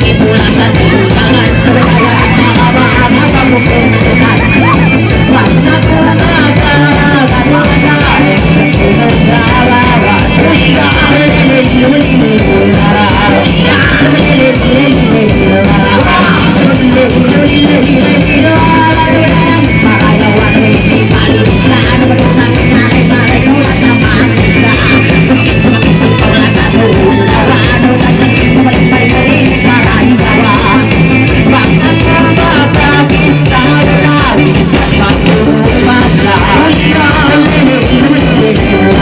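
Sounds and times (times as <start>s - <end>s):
live rock band playing: 0.0s - 39.0s
person singing: 0.0s - 39.0s.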